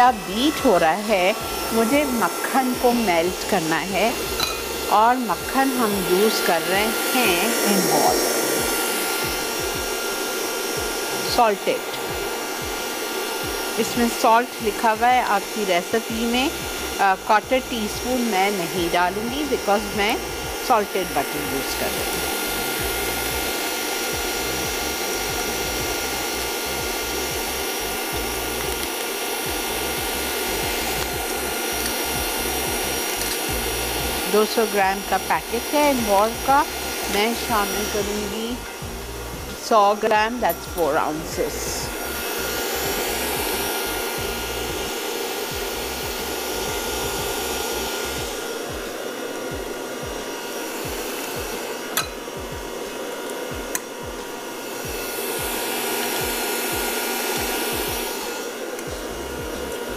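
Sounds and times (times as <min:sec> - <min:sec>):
electric mixer running: 0:00.0 - 0:59.9.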